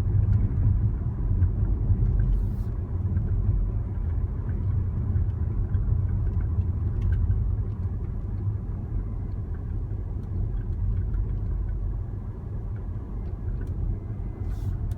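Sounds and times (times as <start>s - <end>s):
vehicle rumbling: 0.0s - 14.9s.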